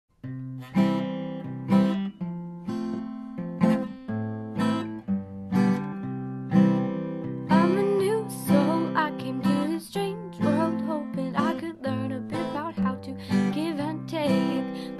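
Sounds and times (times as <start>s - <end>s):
acoustic guitar strumming chords: 0.2s - 14.9s.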